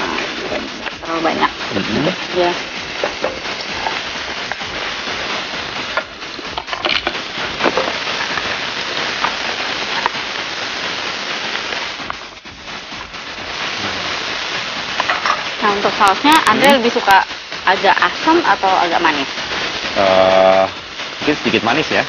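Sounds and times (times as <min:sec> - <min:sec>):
oil sizzling in a wok: 0:00.0 - 0:22.0.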